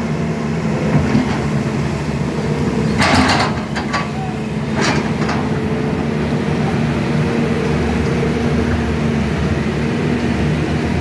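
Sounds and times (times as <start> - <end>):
hydraulic excavator running: 0.0 - 11.0.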